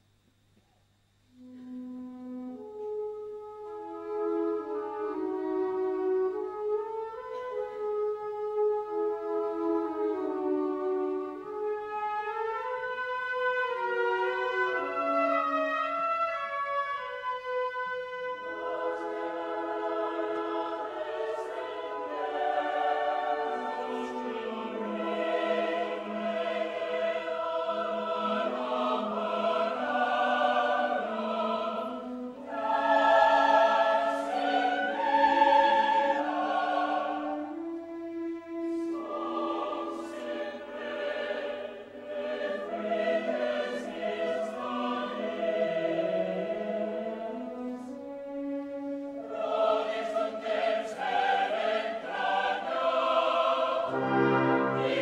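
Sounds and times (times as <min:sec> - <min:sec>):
wind band playing: 0:01.4 - 0:55.0
large choir singing: 0:09.2 - 0:55.0.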